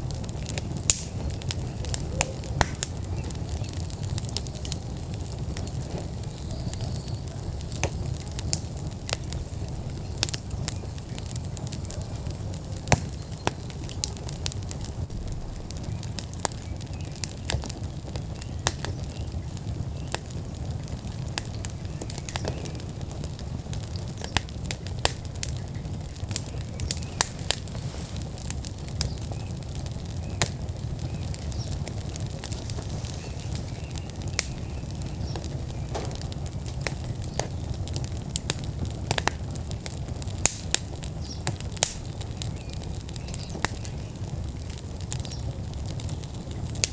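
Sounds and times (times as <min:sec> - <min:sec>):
fire low rumble: 0:00.0 - 0:46.9
wood fire crackling and popping: 0:00.0 - 0:46.9.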